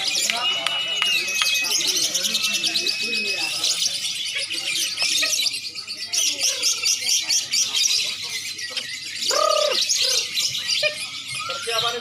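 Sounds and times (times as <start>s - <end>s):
caged birds chirping and trilling: 0.0s - 12.0s.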